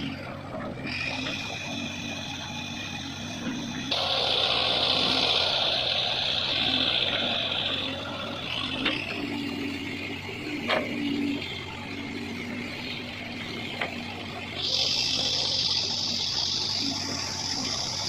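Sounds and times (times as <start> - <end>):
heavy machinery engine running: 0.0 - 18.0
hissing whine: 0.0 - 18.0.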